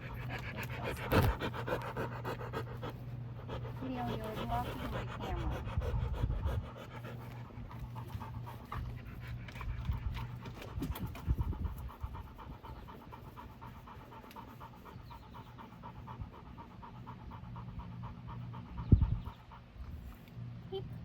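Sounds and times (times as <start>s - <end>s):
dog panting: 0.0s - 20.3s.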